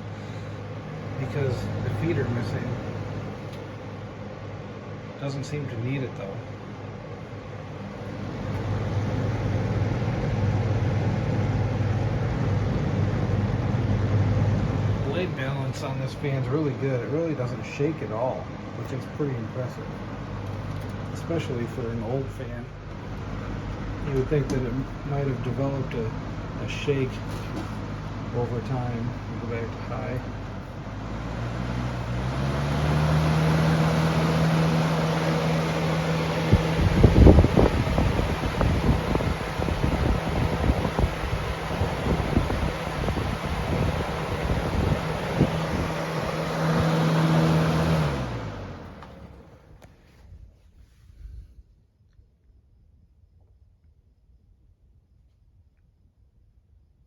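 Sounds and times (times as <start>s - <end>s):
box fan running: 0.0s - 50.5s.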